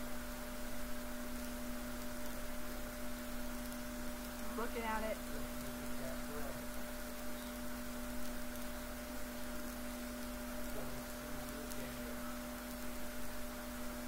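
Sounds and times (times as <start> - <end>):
steady two-tone hum: 0.0 - 14.0.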